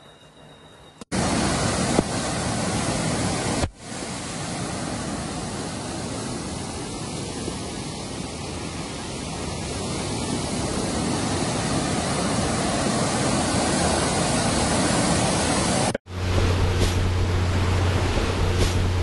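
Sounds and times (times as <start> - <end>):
floodwater rushing: 1.1 - 19.0.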